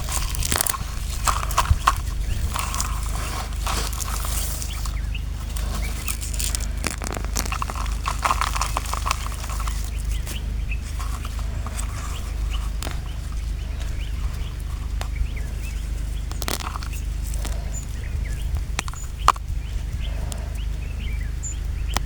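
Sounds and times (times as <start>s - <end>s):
birds chirping: 0.0s - 22.0s
steady low rumble: 0.0s - 22.0s.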